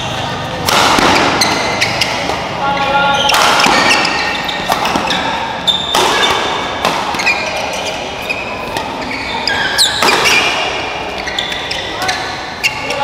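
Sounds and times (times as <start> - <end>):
racket striking shuttlecock: 0.6 - 2.6, 3.2 - 12.3
shoes squeaking on floor: 1.0 - 13.0.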